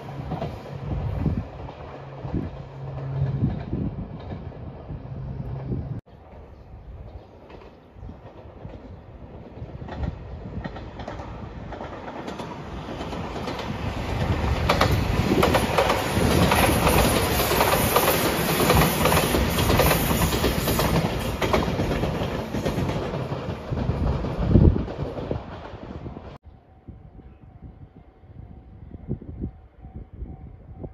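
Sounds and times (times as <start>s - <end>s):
electric train passing: 0.0s - 30.9s.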